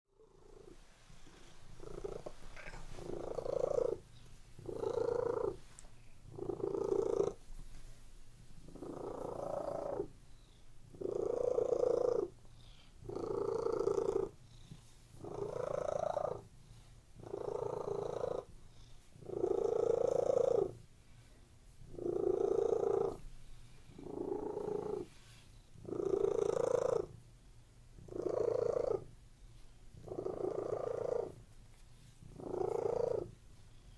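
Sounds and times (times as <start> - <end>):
cat purring: 0.1 - 27.3, 27.9 - 29.2, 29.9 - 33.9.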